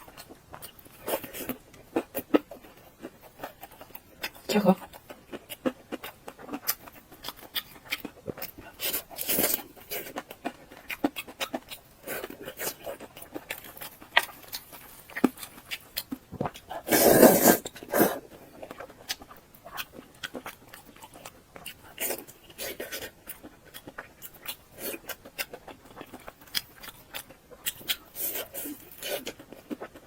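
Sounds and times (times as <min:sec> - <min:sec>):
wet chewing clicks and smacks: 0:00.1 - 0:16.8, 0:18.4 - 0:30.0.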